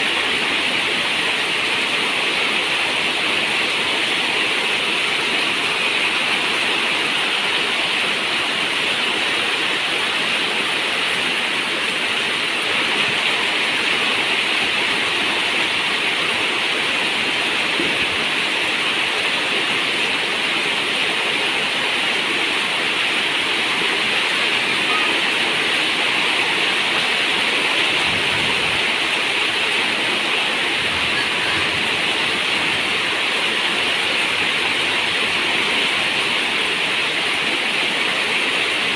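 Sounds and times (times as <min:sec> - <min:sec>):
rush of water: 0:00.0 - 0:38.9.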